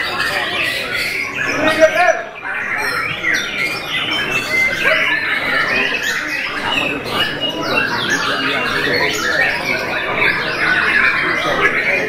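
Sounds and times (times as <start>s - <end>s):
chorus of songbirds whistling: 0.0s - 12.0s.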